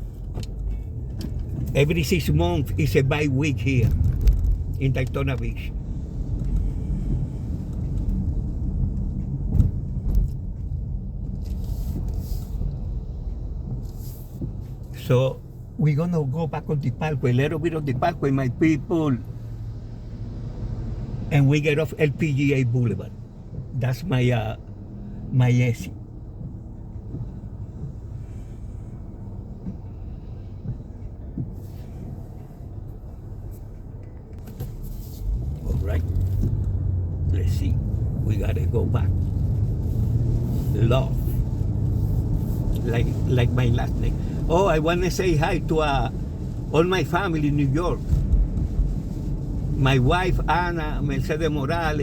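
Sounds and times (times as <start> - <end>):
car road noise rumble: 0.0 - 52.0.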